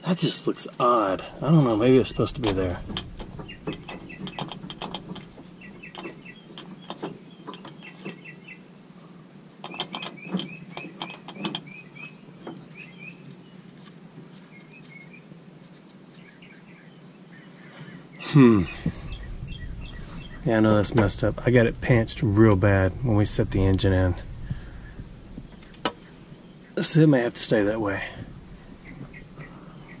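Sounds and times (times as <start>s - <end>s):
faint steady hum: 0.0s - 30.0s
songbird chirping: 0.9s - 30.0s.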